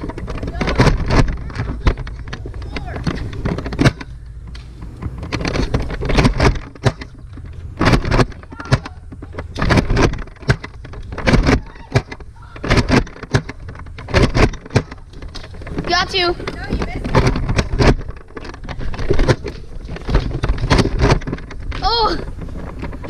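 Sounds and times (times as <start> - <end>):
knocks and clatters: 0.0 - 23.0
steady low rumble: 0.0 - 23.0.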